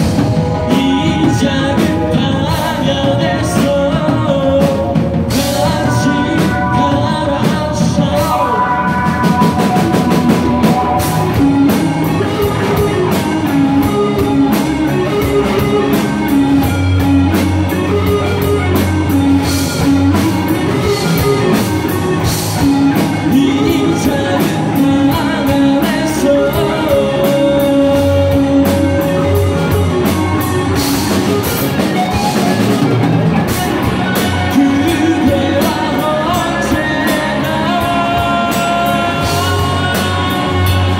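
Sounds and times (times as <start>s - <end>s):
drum kit: 0.0s - 40.9s
electric bass: 0.0s - 40.9s
electric guitars: 0.0s - 40.9s.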